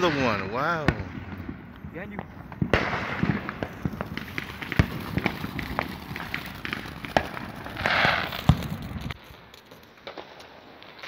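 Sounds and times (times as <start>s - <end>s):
fireworks crackling and banging: 0.0s - 11.0s
fireworks hissing rush: 0.0s - 11.0s.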